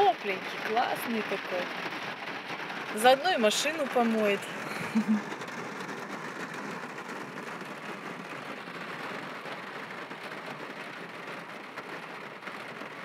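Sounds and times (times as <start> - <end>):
rain drumming on car roof: 0.0 - 13.0.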